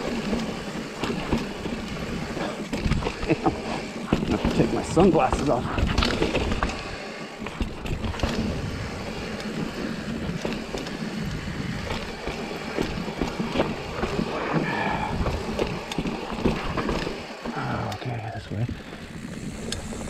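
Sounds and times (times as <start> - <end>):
bike clicks and rattles: 0.0 - 20.0
bike tyres on dirt: 0.0 - 20.0.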